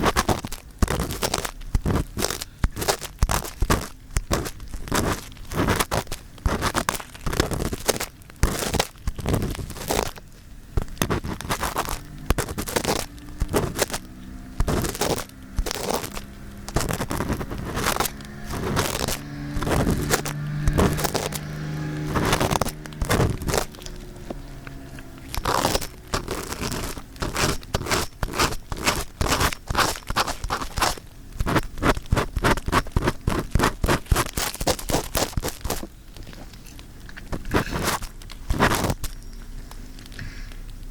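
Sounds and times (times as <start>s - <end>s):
earpick scraping microphone: 0.0s - 39.2s.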